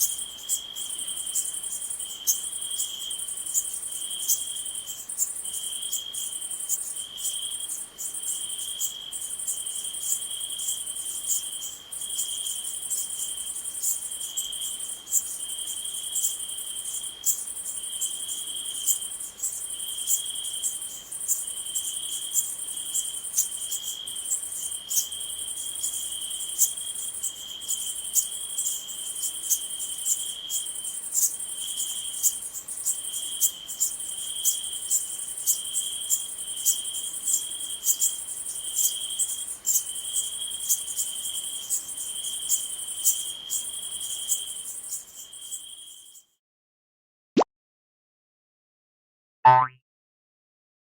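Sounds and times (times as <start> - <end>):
high insect hiss: 0.0 - 46.1
cricket chirping: 0.0 - 46.3.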